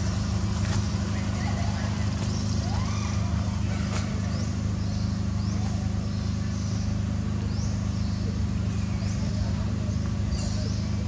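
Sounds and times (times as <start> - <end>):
steady low engine drone: 0.0 - 11.0.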